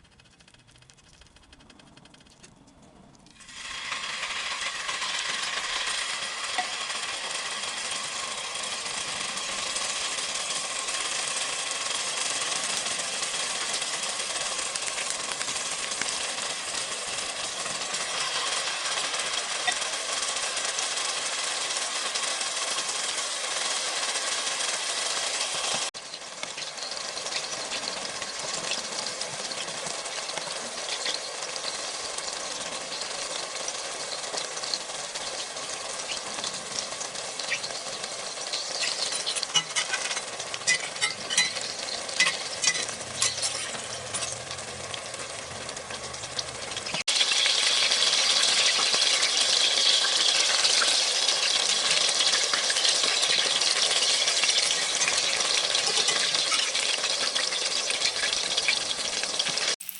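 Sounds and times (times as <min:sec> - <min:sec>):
patties sizzling in a pan: 0:03.3 - 0:59.9.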